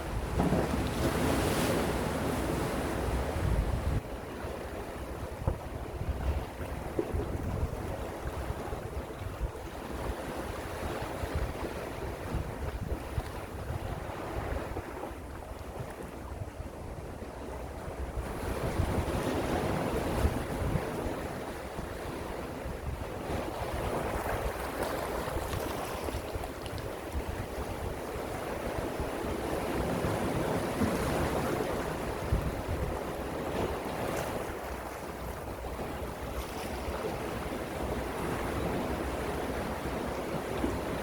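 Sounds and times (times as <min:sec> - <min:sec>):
gentle sea waves washing in: 0:00.0 - 0:41.0
wind rumbling on microphone: 0:00.0 - 0:41.0.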